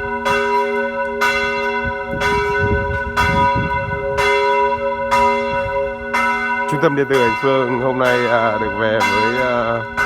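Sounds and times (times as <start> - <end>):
church bell tolling: 0.0 - 10.0.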